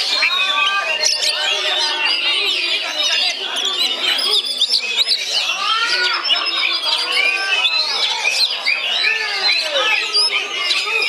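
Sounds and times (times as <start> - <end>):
songbird whistling and chirping: 0.0 - 11.0.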